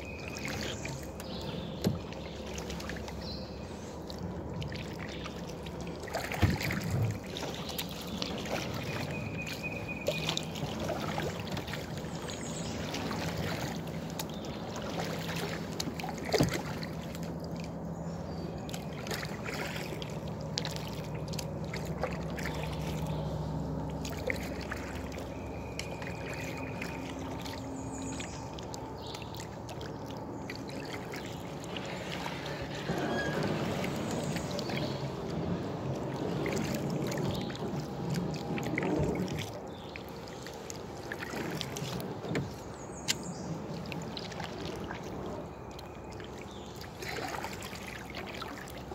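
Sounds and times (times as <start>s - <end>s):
paddle splashing in water: 0.0s - 48.9s.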